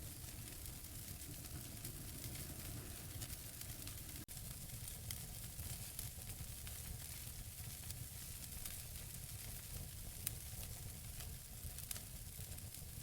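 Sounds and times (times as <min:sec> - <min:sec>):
fire crackles and pops: 0:00.0 - 0:13.0
hiss of burning logs: 0:00.0 - 0:13.0.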